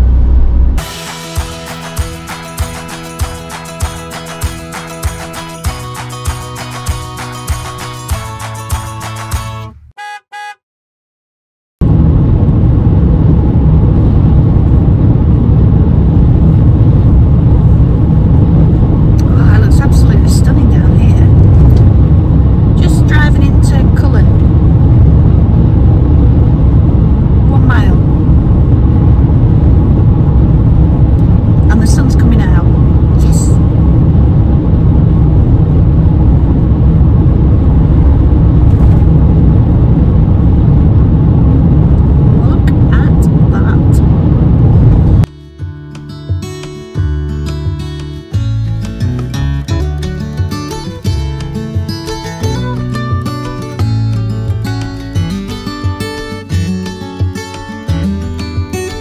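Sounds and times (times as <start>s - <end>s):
van road and engine rumble: 0.0s - 9.9s, 11.8s - 45.3s, 46.4s - 59.0s.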